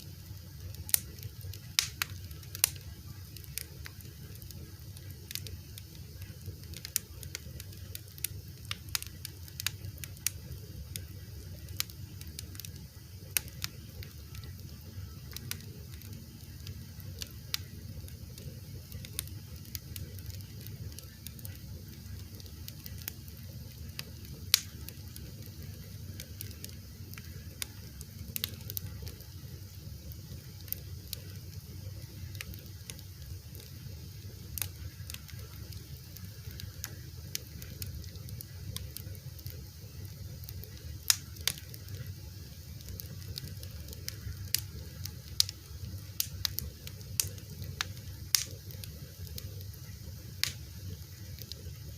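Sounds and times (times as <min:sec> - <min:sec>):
fire crackling and popping: 0:00.0 - 0:51.9
low steady rumble: 0:00.0 - 0:51.9.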